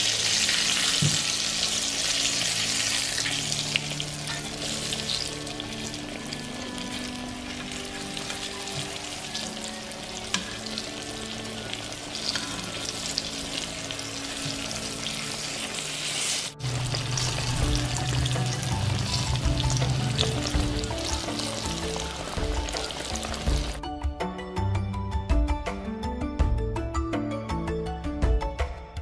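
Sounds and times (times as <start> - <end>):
background music: 0.0 - 29.0.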